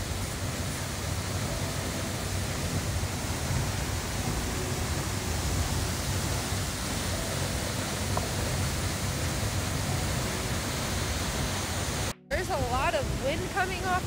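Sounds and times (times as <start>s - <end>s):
waterfall rushing into pool: 0.0s - 14.0s.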